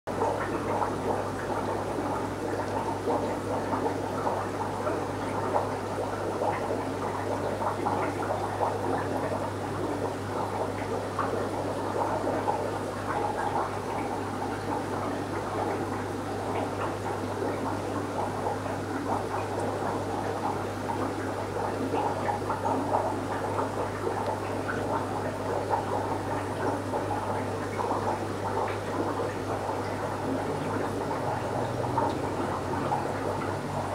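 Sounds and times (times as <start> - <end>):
aquarium water bubbling: 0.1 - 33.9.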